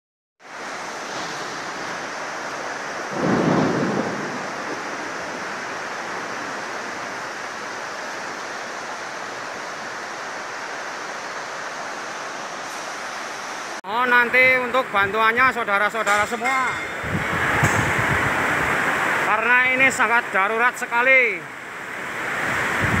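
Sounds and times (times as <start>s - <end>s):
heavy rain and strong wind: 0.4s - 23.0s.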